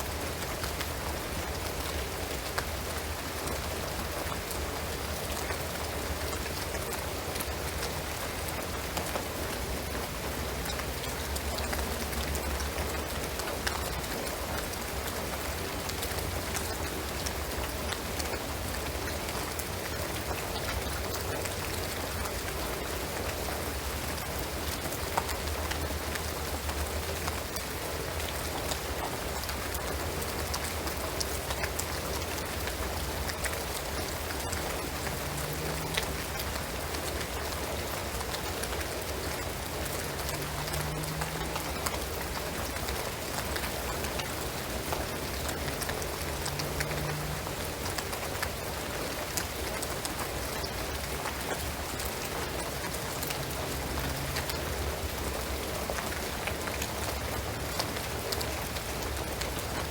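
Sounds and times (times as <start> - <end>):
rain on a shingled roof: 0.0 - 59.9
raindrops ticking: 0.0 - 59.9.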